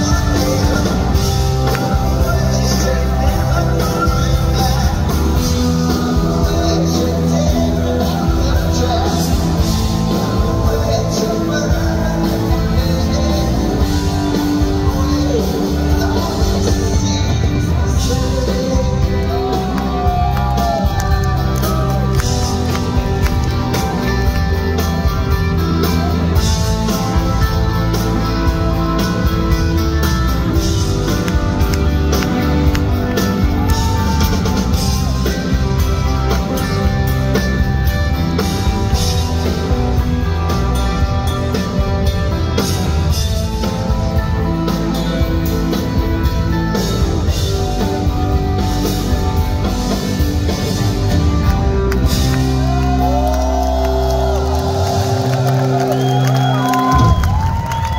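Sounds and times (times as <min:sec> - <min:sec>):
gliding sung or guitar line: 0:00.0 - 0:57.9
rock band playing live: 0:00.0 - 0:57.9.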